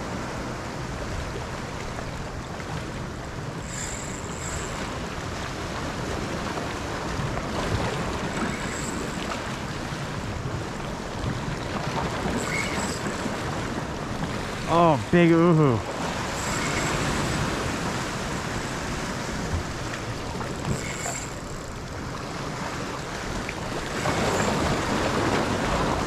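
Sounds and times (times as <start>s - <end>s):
surf washing over rocks: 0.0s - 26.0s.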